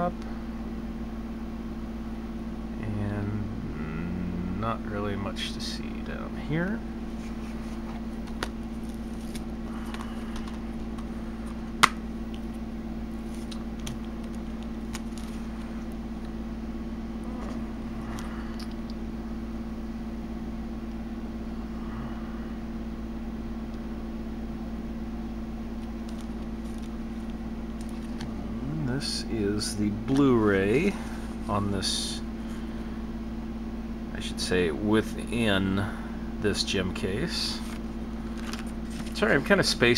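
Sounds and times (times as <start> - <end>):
steady background hum: 0.0 - 39.9.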